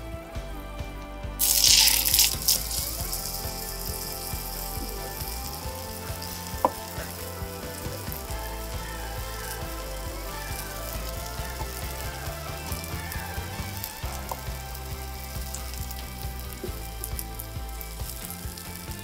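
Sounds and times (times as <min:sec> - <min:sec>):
chicken sizzling in hot oil: 0:01.4 - 0:19.0.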